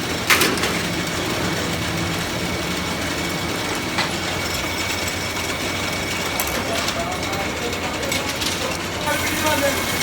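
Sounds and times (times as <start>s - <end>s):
workshop machinery running: 0.0s - 10.0s.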